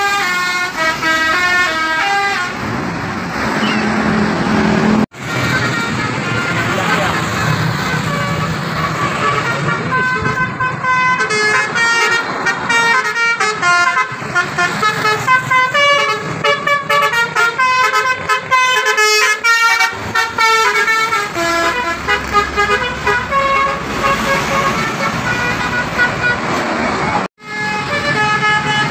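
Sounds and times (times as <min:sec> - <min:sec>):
bus multi-tone horn melody: 0:00.0 - 0:28.9.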